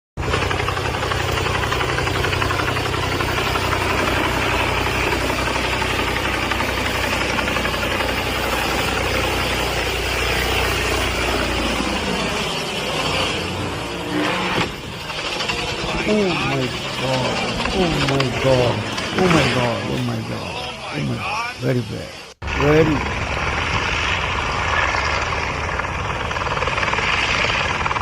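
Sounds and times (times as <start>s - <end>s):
helicopter engines and rotor: 0.2s - 28.0s.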